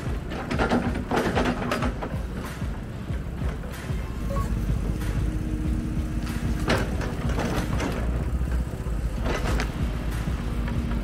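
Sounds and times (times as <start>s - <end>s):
heavy machine engine running: 0.0s - 11.0s.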